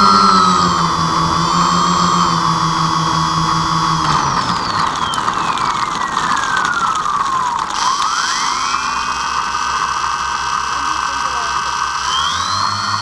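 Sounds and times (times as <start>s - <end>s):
electric motors and propellers whining: 0.0s - 13.0s.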